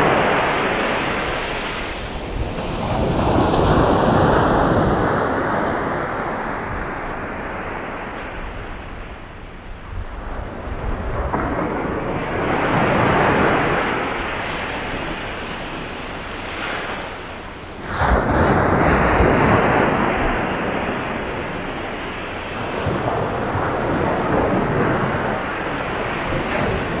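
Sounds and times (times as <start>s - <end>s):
sea waves breaking on shore: 0.0s - 27.0s.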